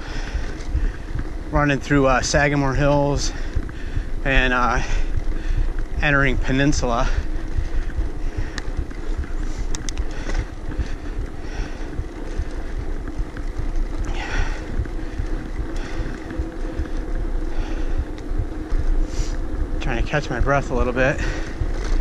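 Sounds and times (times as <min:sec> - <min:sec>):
hard breathing: 0:00.0 - 0:19.8, 0:20.8 - 0:22.0
wind buffeting microphone: 0:00.0 - 0:22.0.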